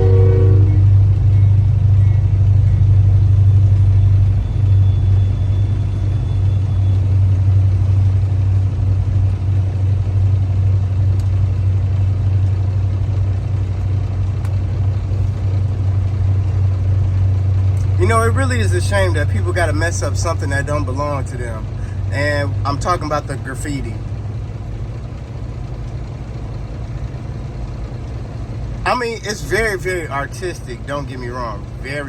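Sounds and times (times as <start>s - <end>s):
diesel truck engine idling: 0.0s - 32.0s.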